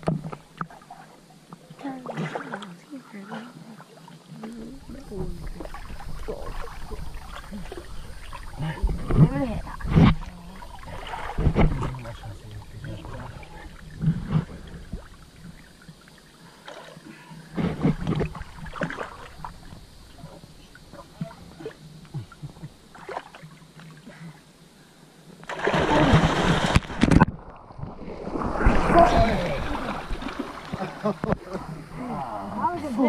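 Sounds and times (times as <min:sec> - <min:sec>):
water splashing and sloshing: 0:00.0 - 0:24.6, 0:25.4 - 0:33.0.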